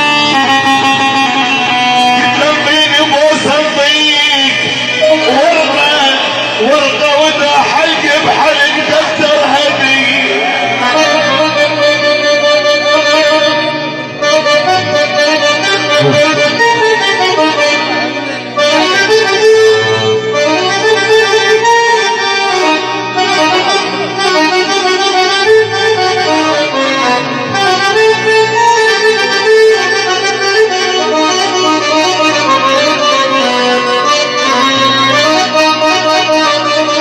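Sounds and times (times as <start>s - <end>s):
band music with keyboard melody: 0.0s - 37.0s.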